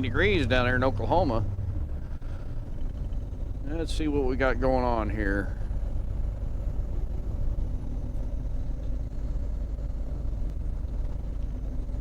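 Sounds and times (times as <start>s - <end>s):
faint steady hum: 0.0s - 12.0s
road noise: 0.0s - 12.0s
truck engine rumble: 0.0s - 12.0s.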